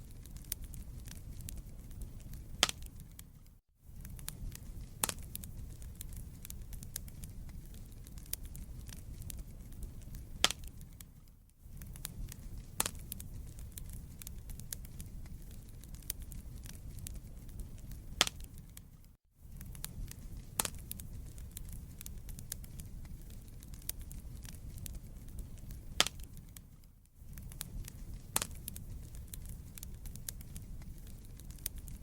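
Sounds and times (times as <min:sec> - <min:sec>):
fire flames rumbling: 0:00.0 - 0:32.0
logs crackling and popping: 0:00.0 - 0:32.0.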